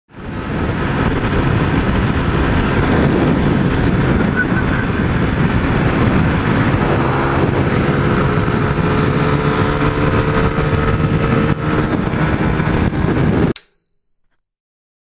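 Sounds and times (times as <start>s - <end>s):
motorcycle running: 0.1s - 13.6s
wind rushing over microphone: 0.1s - 13.6s.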